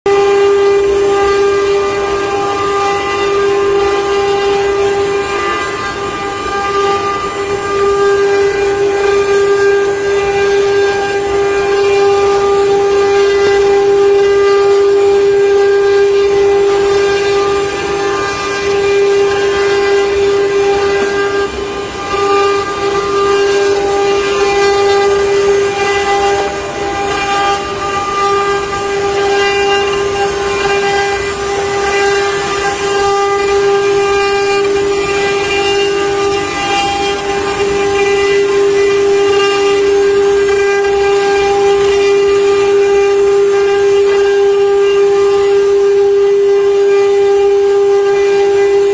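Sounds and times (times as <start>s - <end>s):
router bits cutting wood: 0.1s - 48.9s
router spindle motors whining: 0.1s - 48.9s.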